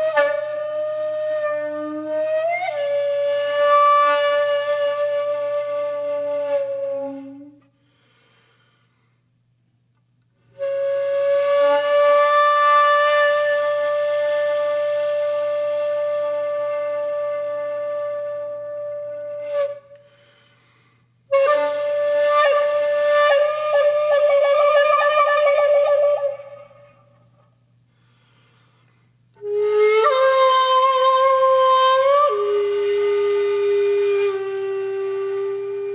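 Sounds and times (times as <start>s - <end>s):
solo flute playing held notes: 0.0s - 7.7s, 10.5s - 20.2s, 21.3s - 27.1s, 29.4s - 35.9s.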